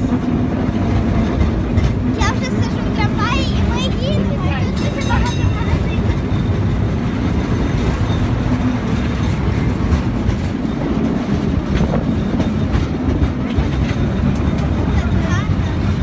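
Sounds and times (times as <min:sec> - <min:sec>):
cable car rumbling on rails: 0:00.0 - 0:16.0
wheels clacking on track: 0:00.0 - 0:16.0.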